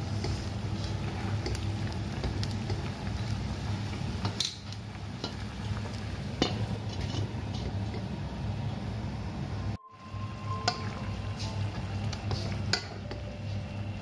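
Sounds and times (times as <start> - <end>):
spatula stirring: 0.0 - 8.2, 10.6 - 14.0
liquid bubbling in a pan: 0.0 - 14.0.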